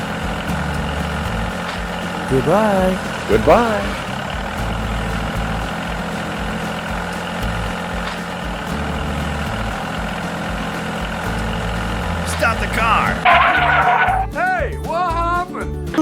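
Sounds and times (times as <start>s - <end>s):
vehicle engine running: 0.0s - 14.4s.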